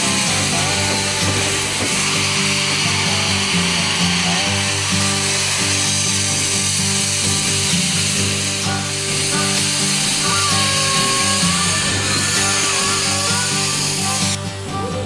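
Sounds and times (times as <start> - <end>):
low sustained tones: 0.0 - 15.0
steam hissing from locomotive: 0.0 - 15.0.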